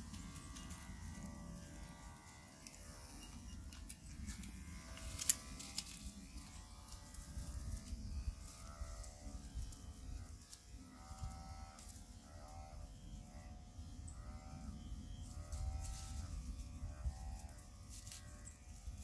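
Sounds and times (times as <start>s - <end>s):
electric clippers buzzing: 0.0s - 19.0s.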